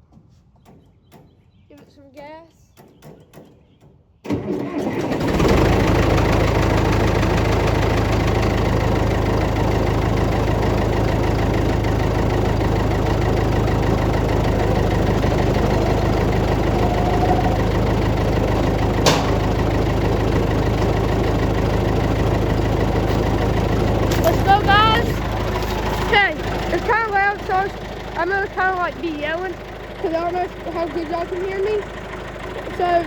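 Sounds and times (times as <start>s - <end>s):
diesel engine cranking and running: 4.2s - 33.0s.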